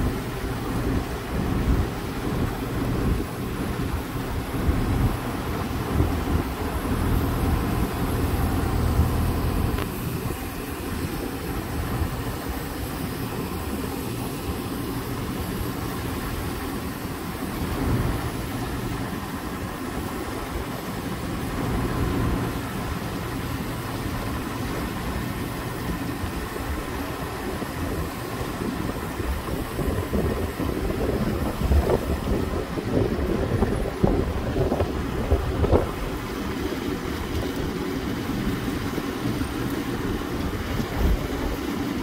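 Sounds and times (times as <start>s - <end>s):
heavy machinery engine rumbling: 0.0s - 42.0s.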